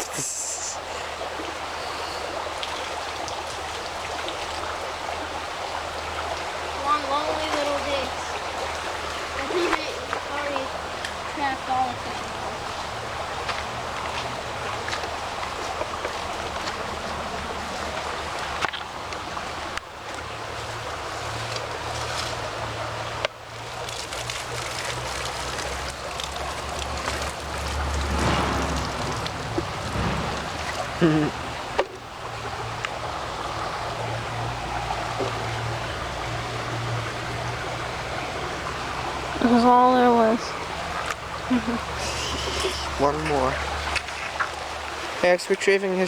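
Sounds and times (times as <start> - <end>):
creek rushing over stones: 0.0 - 46.0
water ticks and splashes: 0.0 - 46.0.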